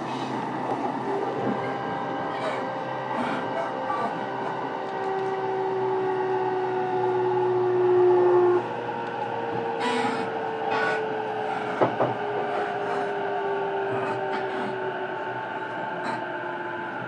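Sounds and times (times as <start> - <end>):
rail and wheel noise: 0.0 - 17.0
train motor whine: 0.0 - 17.0.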